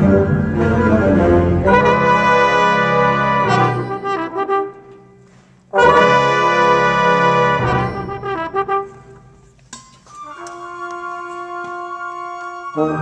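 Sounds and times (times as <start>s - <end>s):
wind ensemble playing chords: 0.0s - 5.0s, 5.7s - 9.4s, 10.2s - 13.0s.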